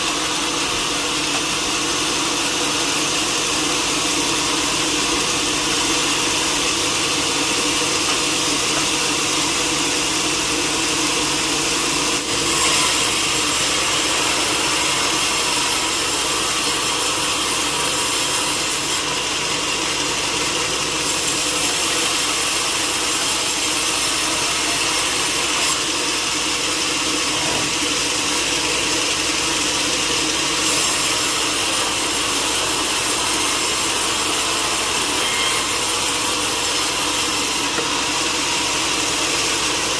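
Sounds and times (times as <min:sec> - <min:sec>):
power saw cutting timber: 0:00.0 - 0:39.9.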